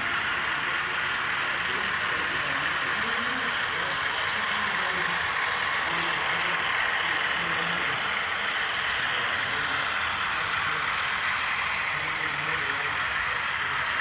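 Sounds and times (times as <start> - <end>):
model trains whirring past: 0.0 - 14.0.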